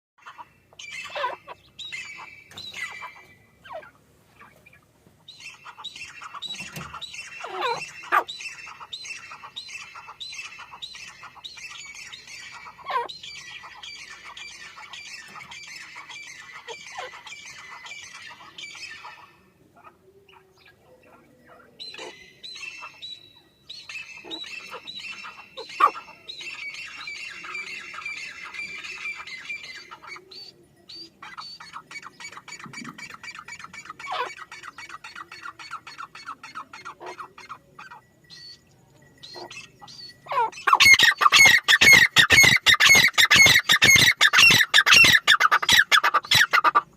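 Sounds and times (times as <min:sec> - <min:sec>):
birds squawking calls: 0:00.2 - 0:46.9.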